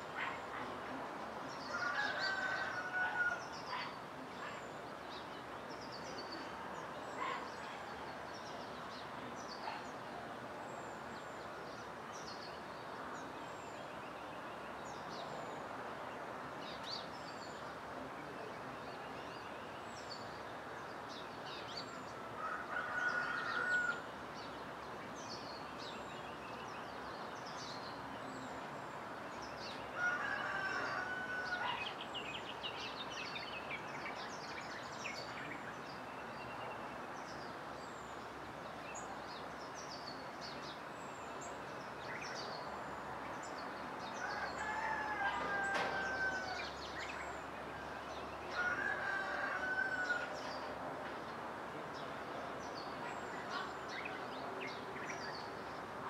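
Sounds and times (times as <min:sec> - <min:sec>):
background hiss: 0:00.0 - 0:56.0
birds chirping: 0:00.0 - 0:56.0.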